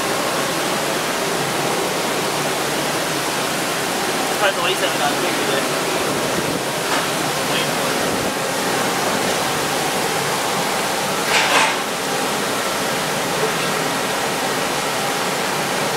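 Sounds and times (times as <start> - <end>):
heavy rain: 0.0 - 15.9.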